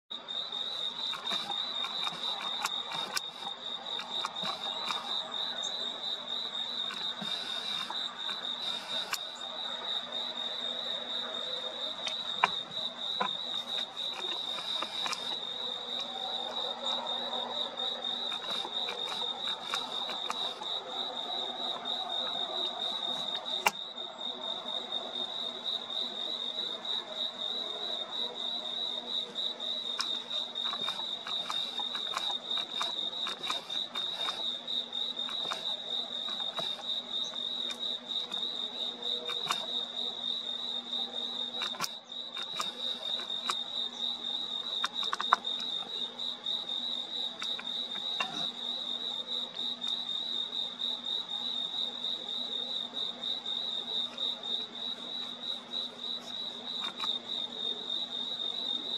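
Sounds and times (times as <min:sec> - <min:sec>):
crickets trilling: 0:00.1 - 0:58.9.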